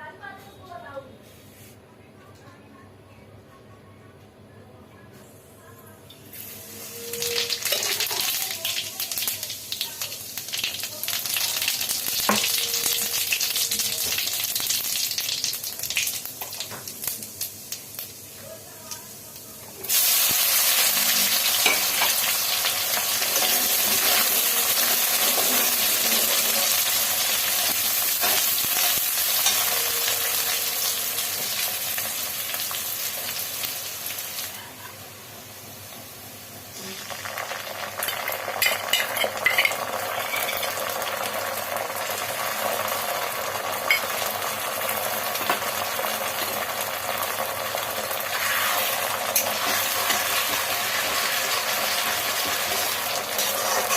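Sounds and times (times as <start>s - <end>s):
food sizzling in hot oil: 6.3s - 53.9s.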